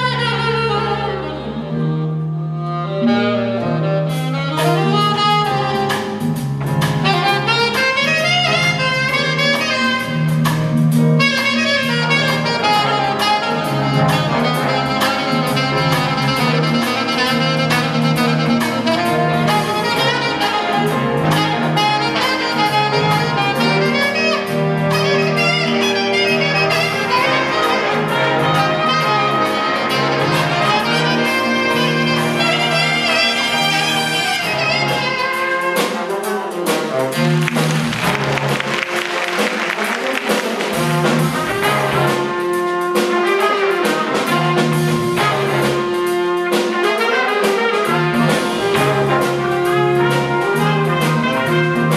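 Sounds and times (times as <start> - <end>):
big band jazz: 0.0 - 51.9.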